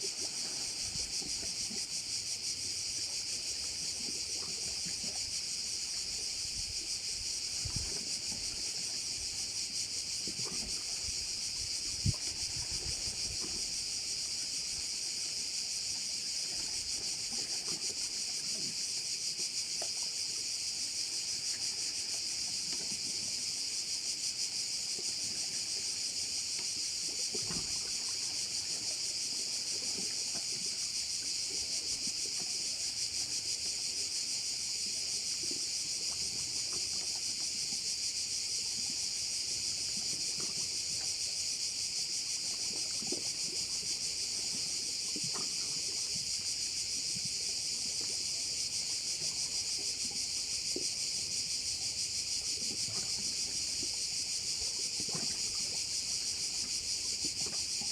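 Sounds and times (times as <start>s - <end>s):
cicadas buzzing: 0.0s - 57.9s.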